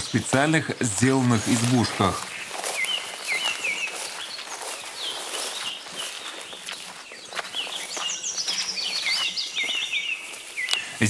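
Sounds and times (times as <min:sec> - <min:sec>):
footsteps through shrubs and grass: 0:00.0 - 0:11.0
small songbirds chirping: 0:00.0 - 0:11.0.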